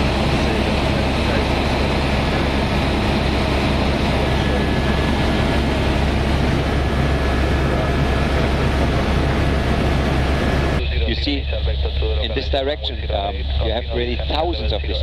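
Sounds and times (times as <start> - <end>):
helicopter engine and rotors drone: 0.0 - 15.0.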